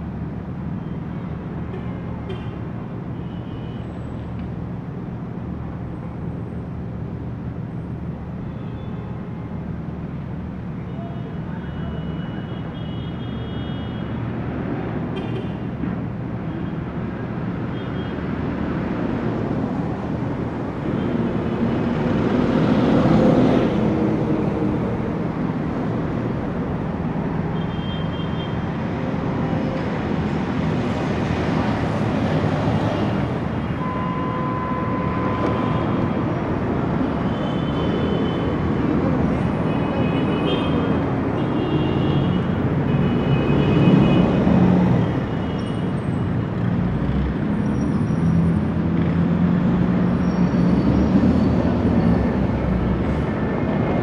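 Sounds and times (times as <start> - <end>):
city street traffic: 0.0 - 54.0.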